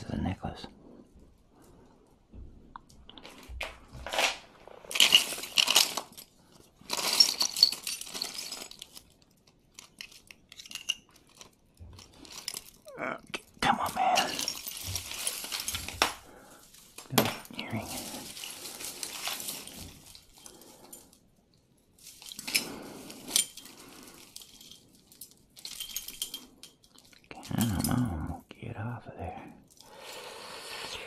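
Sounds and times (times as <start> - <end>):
jewelry clinking and rustling: 1.0 - 28.3.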